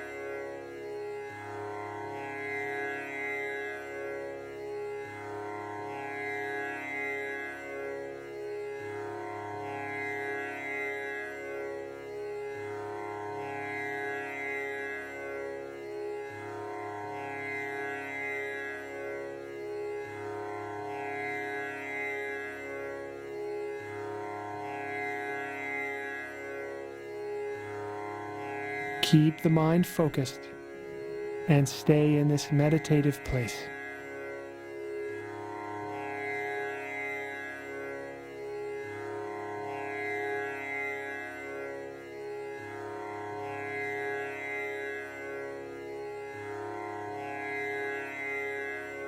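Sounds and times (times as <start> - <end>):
slow meditative drone music: 0.0 - 49.0.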